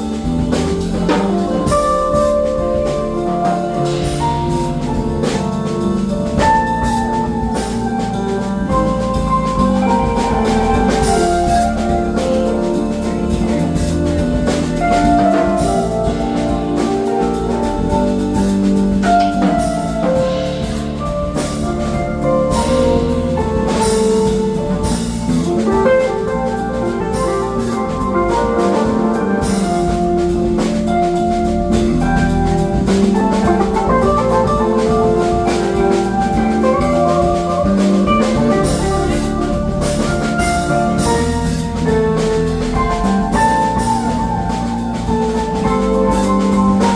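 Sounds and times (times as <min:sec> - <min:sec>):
drum kit beat: 0:00.0 - 0:46.9
funk band playing live: 0:00.0 - 0:46.9.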